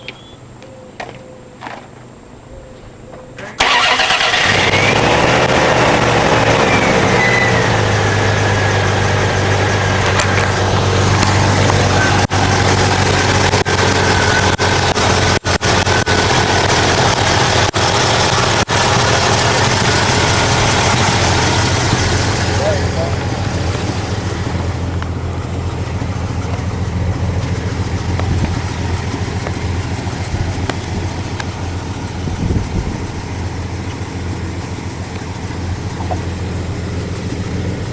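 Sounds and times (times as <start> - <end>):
pickup truck engine starting and running: 3.4 - 37.9.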